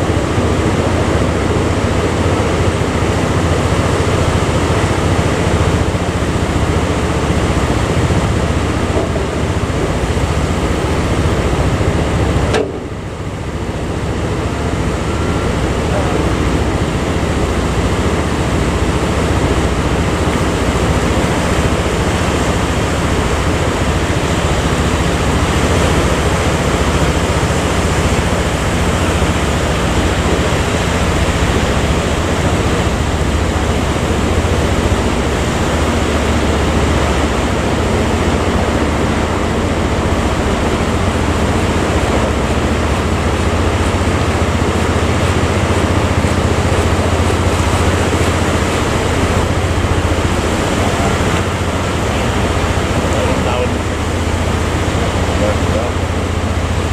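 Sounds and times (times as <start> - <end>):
low engine hum: 0.0 - 56.9
sea waves rushing: 0.0 - 56.9
wind: 0.0 - 56.9.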